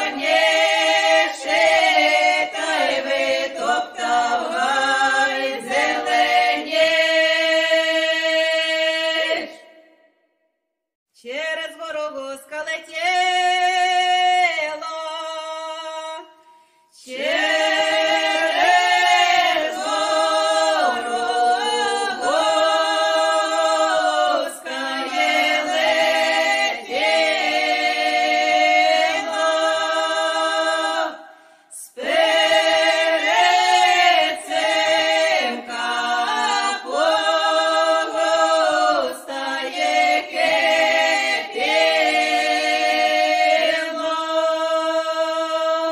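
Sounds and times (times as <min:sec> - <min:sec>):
unaccompanied choir singing: 0:00.0 - 0:09.8, 0:17.0 - 0:45.9.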